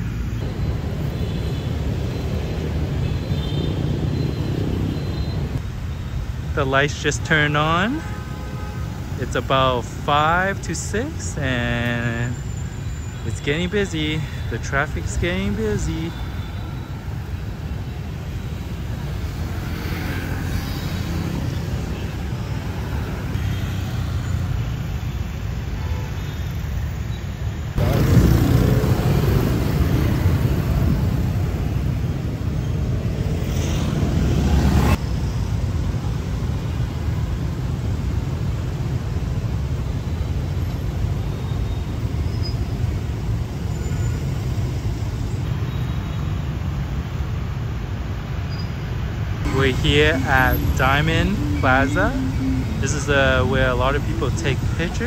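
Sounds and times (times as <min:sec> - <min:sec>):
cars and motorbikes passing: 0:00.0 - 0:55.0.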